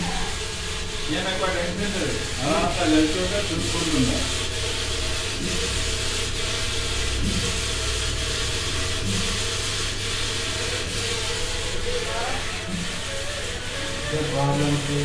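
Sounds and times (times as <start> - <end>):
polishing machine motor humming: 0.0 - 15.0.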